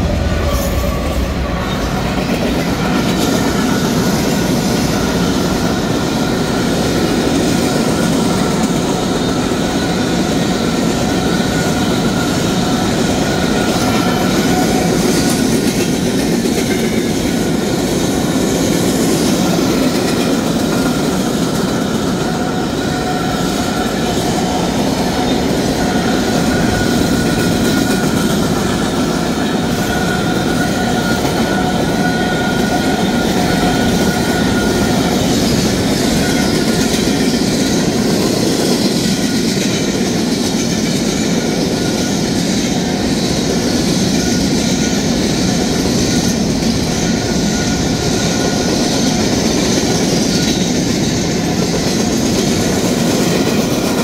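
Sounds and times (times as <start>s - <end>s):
train wheels on rail: 0.0s - 54.0s.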